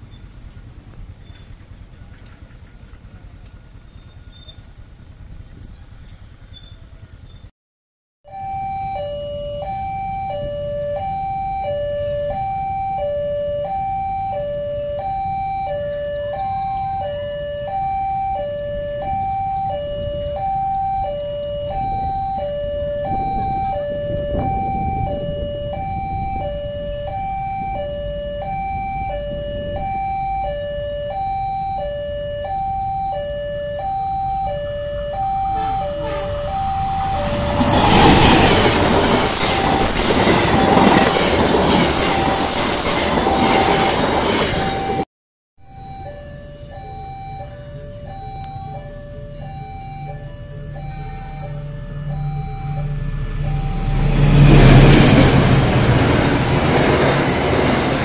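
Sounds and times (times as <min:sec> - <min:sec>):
diesel locomotive rumble: 0:00.0 - 0:07.5, 0:09.6 - 0:45.0, 0:45.7 - 0:58.0
two-tone crossing alarm: 0:08.2 - 0:58.0.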